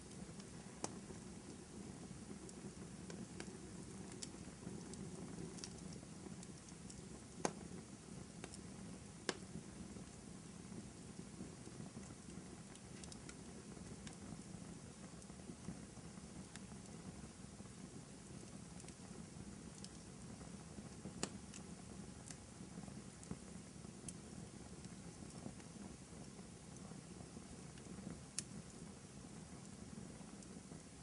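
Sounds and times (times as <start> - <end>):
fire hissing and crackling: 0.0 - 31.0
sharp fire pops: 0.0 - 31.0.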